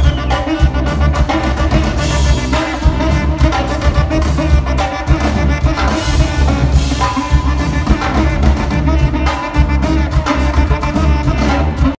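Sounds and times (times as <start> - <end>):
drum kit drumming: 0.0 - 11.9
saxophone: 0.0 - 11.9
tuba bass line: 0.0 - 11.9.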